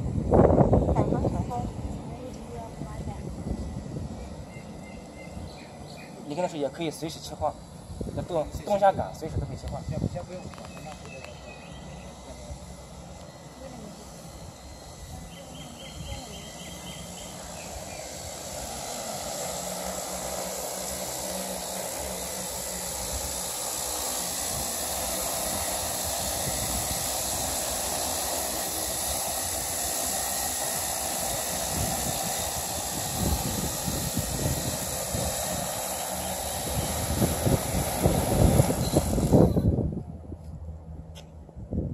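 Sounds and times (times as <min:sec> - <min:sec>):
drone rotors humming: 0:00.0 - 0:41.9.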